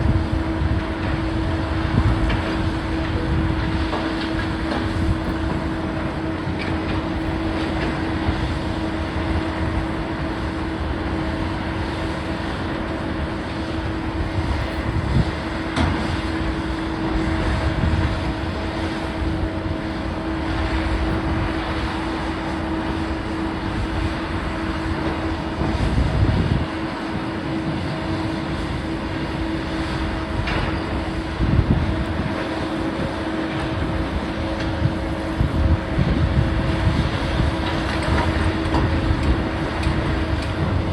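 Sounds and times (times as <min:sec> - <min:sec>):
demolition machinery whining: 0:00.0 - 0:40.9.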